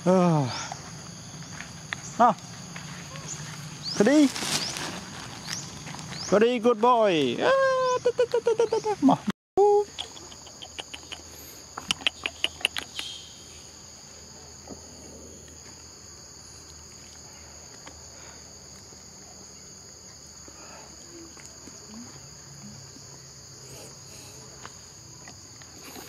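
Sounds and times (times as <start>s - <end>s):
forest insects droning: 0.0s - 26.0s.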